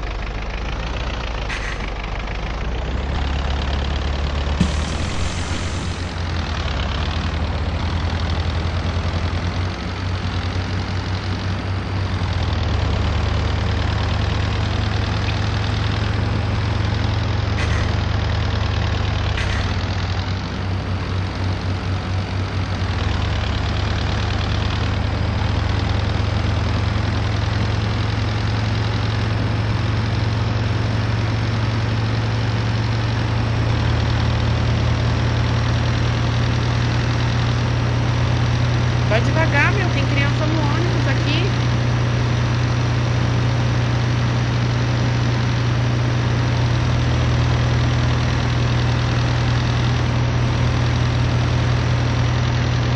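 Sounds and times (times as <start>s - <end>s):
bus diesel engine humming: 0.0s - 52.9s
road and cabin noise: 0.0s - 52.9s.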